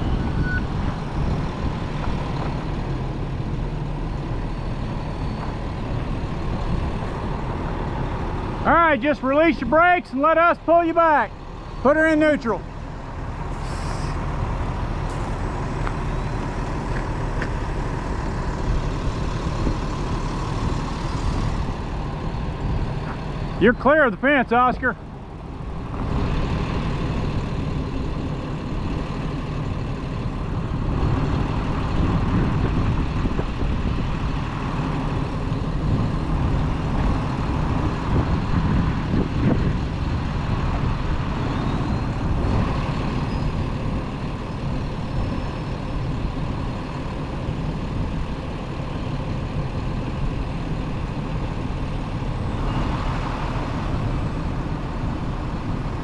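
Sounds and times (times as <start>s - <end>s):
diesel truck engines rumbling: 0.0s - 56.0s.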